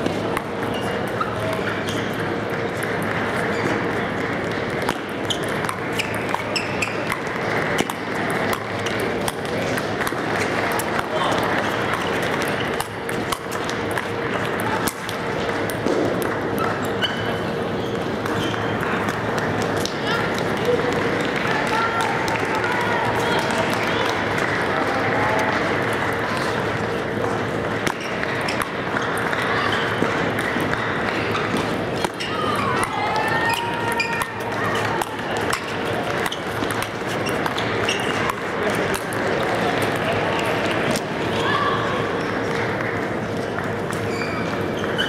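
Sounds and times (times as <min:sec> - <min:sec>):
murmur of voices: 0:00.0 - 0:45.0.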